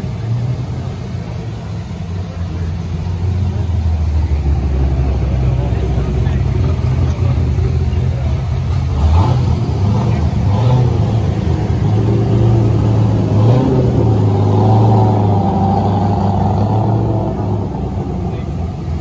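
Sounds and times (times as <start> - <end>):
car engine at low revs: 0.0 - 19.0.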